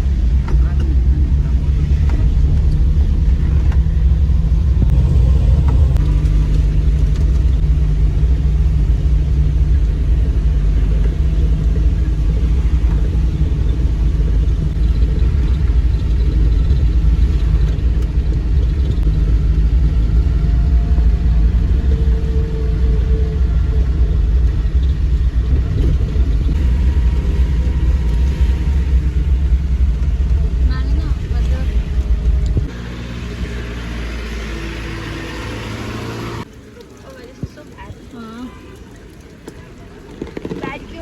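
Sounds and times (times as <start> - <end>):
road vehicle rumbling: 0.0 - 41.0.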